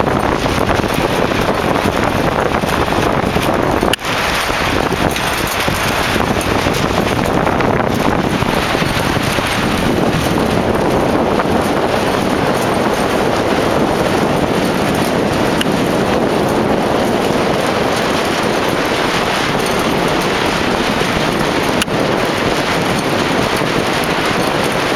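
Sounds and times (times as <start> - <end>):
choppy water: 0.0 - 24.9
strong wind buffeting microphone: 0.0 - 24.9.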